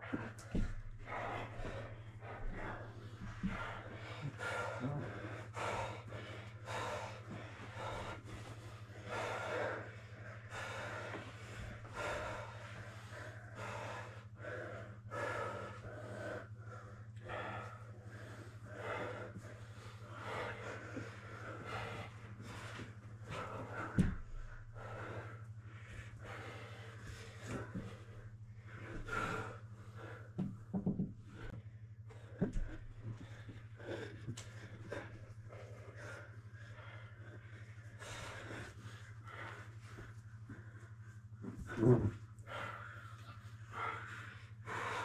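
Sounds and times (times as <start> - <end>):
heavy breathing: 0.0 - 45.0
low hum: 0.0 - 45.0.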